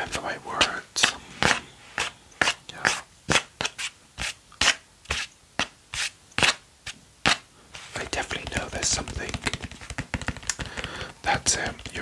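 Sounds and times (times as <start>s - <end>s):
scratching on a hard object: 0.0s - 6.6s, 7.3s - 12.0s.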